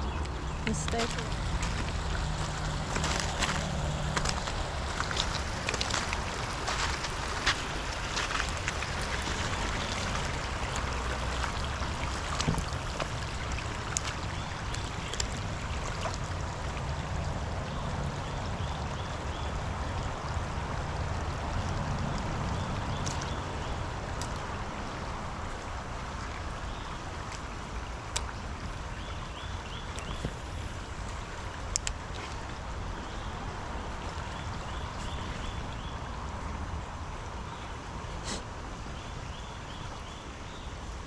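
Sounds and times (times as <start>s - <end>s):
creek water running: 0.0s - 41.0s.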